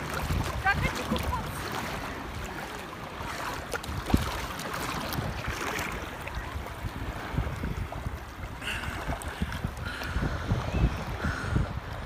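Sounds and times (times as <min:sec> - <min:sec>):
small waves lapping: 0:00.0 - 0:12.0
wind on microphone: 0:00.0 - 0:12.0.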